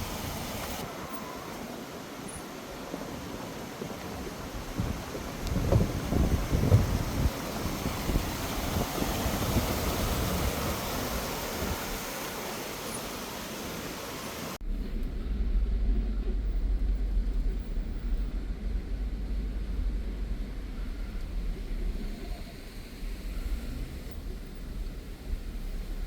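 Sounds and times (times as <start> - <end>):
steady rushing hiss: 0.0 - 26.0
car driving heard from cabin: 4.8 - 26.0.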